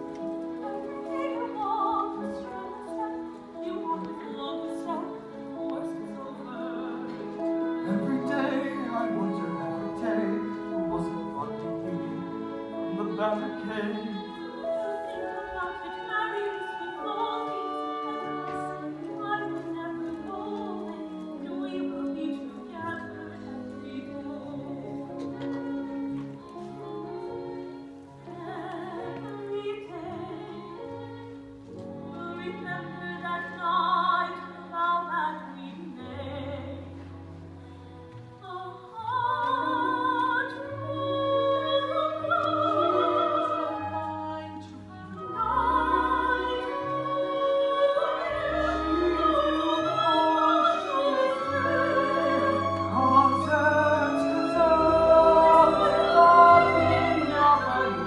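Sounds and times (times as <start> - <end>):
orchestral accompaniment: 0.0 - 58.0
operatic singing with vibrato: 0.4 - 37.0, 38.4 - 58.0.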